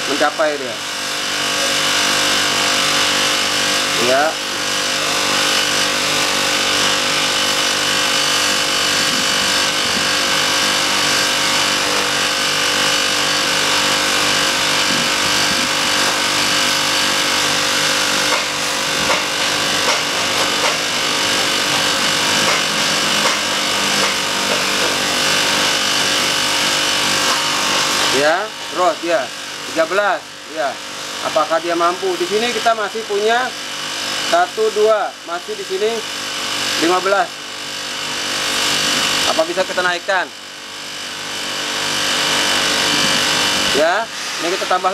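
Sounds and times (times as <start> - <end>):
compressor hum: 0.0 - 44.9.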